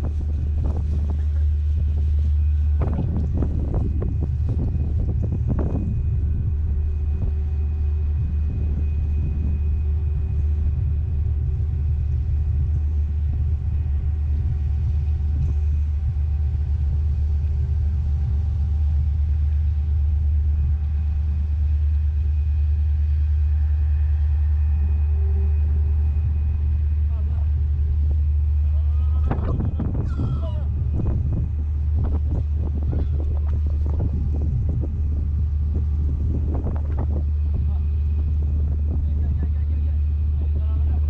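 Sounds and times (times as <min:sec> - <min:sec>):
constant hums: 0:00.0 - 0:41.0
ferry engines droning: 0:00.0 - 0:41.0.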